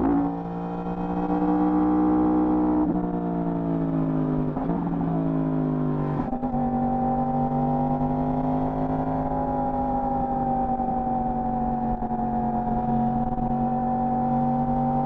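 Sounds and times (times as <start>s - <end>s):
motorcycle engine revving: 0.0s - 3.1s, 4.4s - 15.0s.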